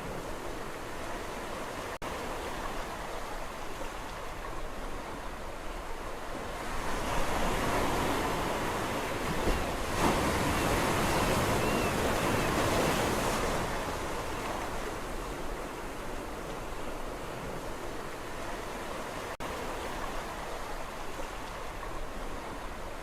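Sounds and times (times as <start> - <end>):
sea waves breaking on shore: 0.0 - 23.0.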